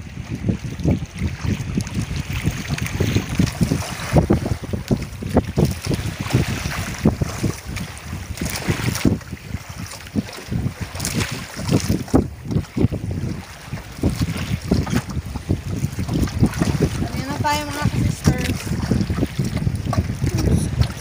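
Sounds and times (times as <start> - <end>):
boat moving across water: 0.0 - 21.0
wind buffeting microphone: 0.0 - 21.0.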